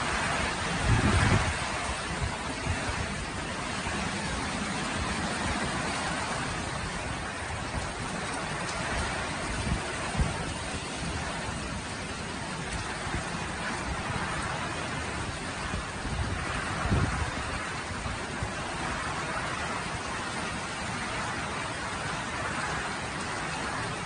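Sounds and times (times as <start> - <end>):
heavy rain pouring: 0.0 - 24.0
wind buffeting microphone: 0.0 - 24.0.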